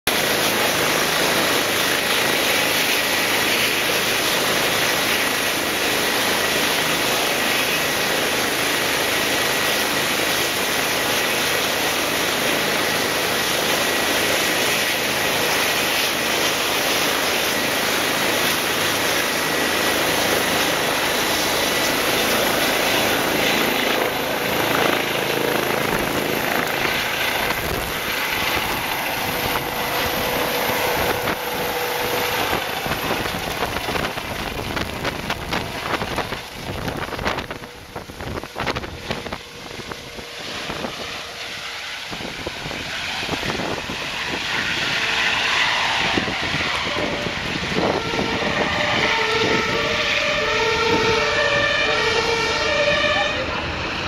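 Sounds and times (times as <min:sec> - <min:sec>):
helicopter turbine whine and rotor: 0:00.0 - 0:54.0
rotor wash gusts: 0:00.1 - 0:54.0.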